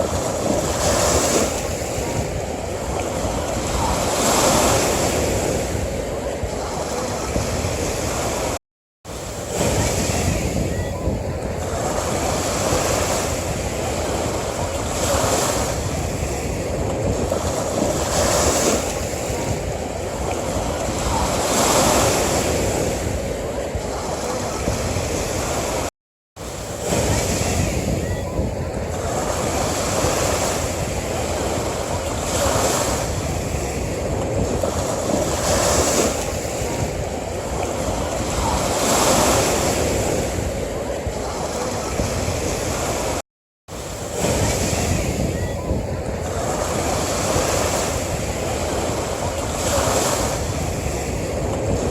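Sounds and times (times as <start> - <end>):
ocean waves breaking on beach: 0.0 - 51.9.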